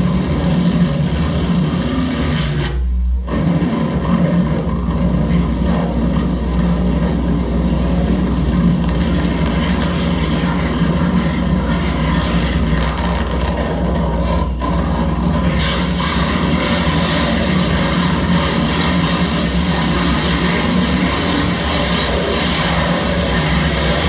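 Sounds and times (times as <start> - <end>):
dense electronic noise wall: 0.0 - 24.0
steady low drone: 0.0 - 24.0.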